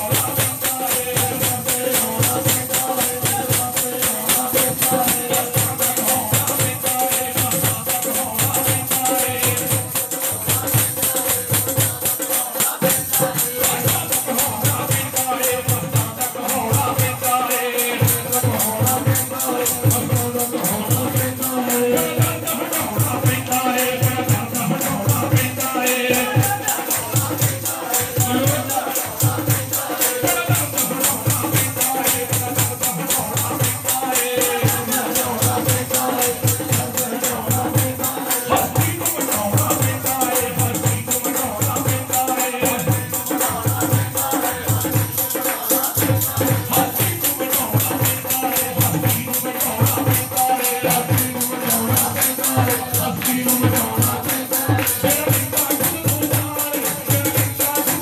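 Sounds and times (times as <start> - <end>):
devotional song sung into microphones: 0.0 - 58.0
drum beat: 0.0 - 58.0
jingling rattling percussion: 0.0 - 58.0.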